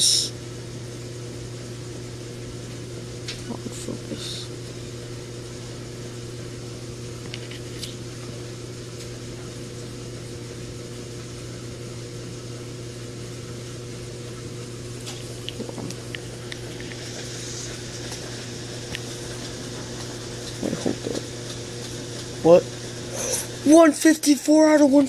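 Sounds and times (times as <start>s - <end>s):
appliance humming: 0.0s - 25.0s.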